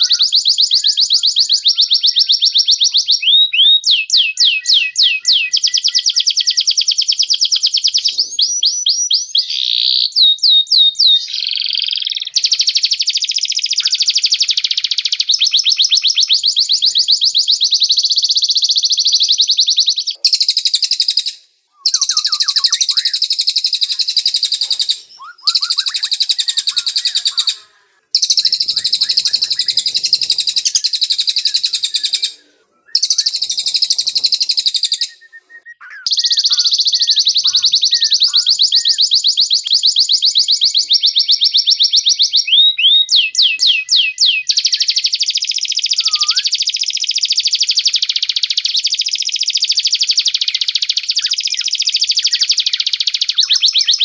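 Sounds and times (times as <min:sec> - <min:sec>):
songbirds trilling: 0:00.0 - 0:39.2, 0:45.9 - 0:46.5, 0:49.8 - 0:54.0.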